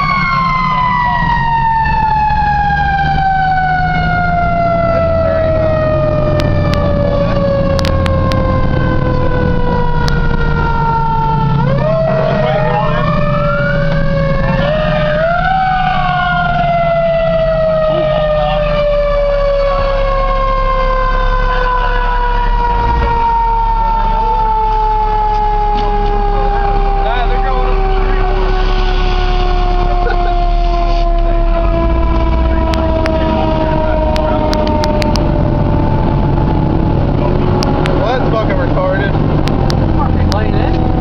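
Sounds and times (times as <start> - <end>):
fire engine siren winding: 0.0 - 41.0
second siren sweeping: 0.0 - 41.0
truck engine low rumble: 0.0 - 41.0.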